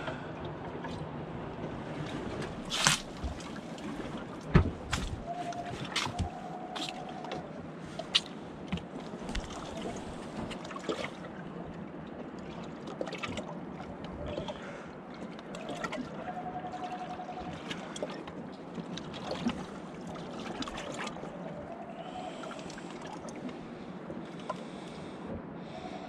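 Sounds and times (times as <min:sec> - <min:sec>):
water lapping around boat: 0:00.0 - 0:26.0.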